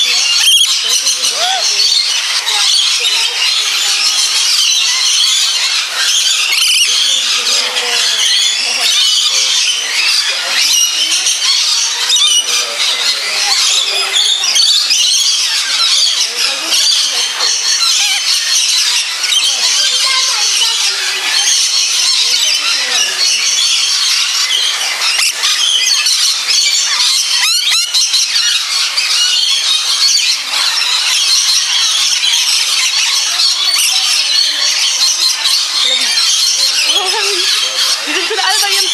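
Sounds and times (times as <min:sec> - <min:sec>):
lorikeets screeching and chattering: 0:00.0 - 0:38.9
sweeping bird call: 0:00.0 - 0:38.9.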